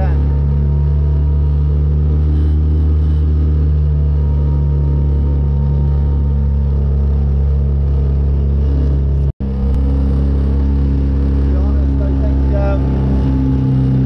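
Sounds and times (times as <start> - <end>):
hull through choppy water: 0.0 - 14.0
outboard motor running: 0.0 - 14.0.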